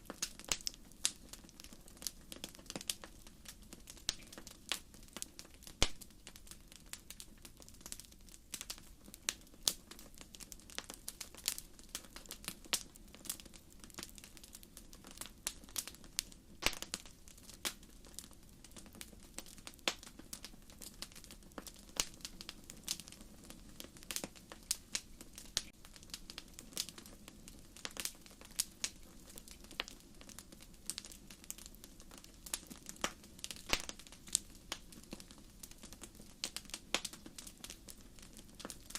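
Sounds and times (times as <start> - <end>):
low hiss of flames: 0.0 - 38.9
wood fire crackling: 0.0 - 38.9.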